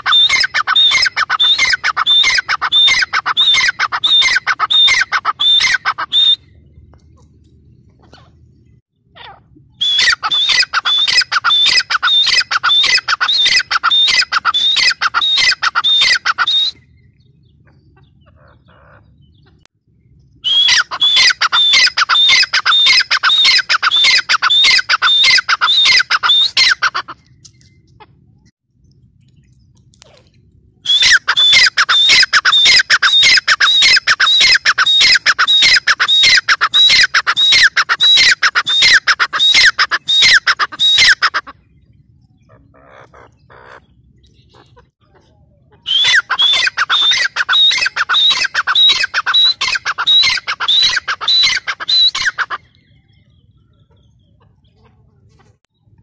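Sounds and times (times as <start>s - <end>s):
francolin calling: 0.0s - 7.2s, 9.1s - 19.6s, 20.4s - 27.8s, 30.8s - 44.9s, 45.8s - 54.7s.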